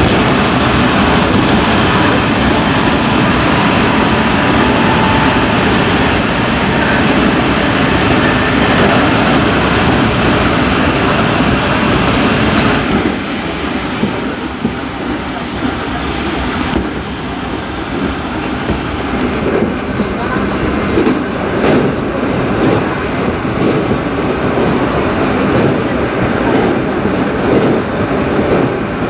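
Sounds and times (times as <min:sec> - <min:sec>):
train rumbling in tunnel: 0:00.0 - 0:29.0.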